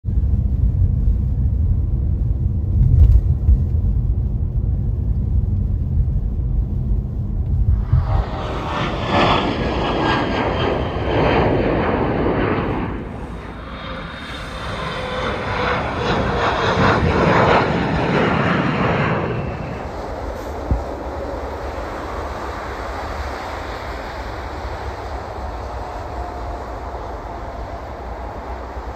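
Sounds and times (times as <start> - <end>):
jet airliner engine roar: 0.0 - 28.9.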